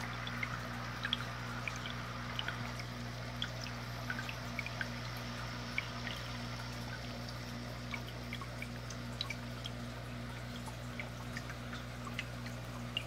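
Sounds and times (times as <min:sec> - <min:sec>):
small bubbles popping: 0:00.0 - 0:05.2, 0:05.8 - 0:13.0
pump electric hum: 0:00.0 - 0:13.0
water trickling: 0:00.0 - 0:13.0.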